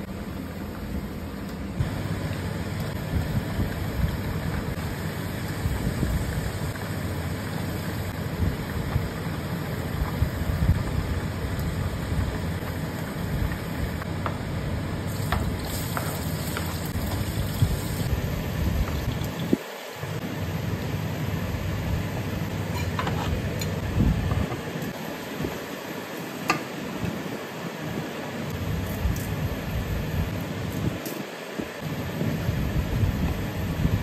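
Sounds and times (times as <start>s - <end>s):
oil frying in a wok: 0.0s - 27.3s.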